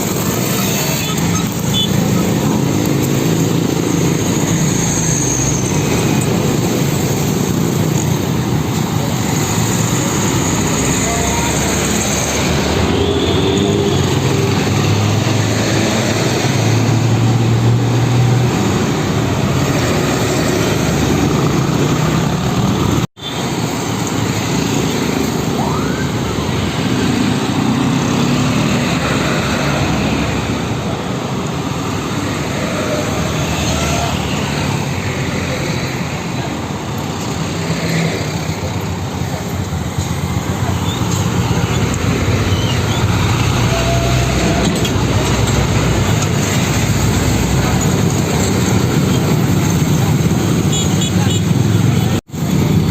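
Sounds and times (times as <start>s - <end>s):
diesel truck engines: 0.0s - 52.9s
road traffic: 0.0s - 52.9s.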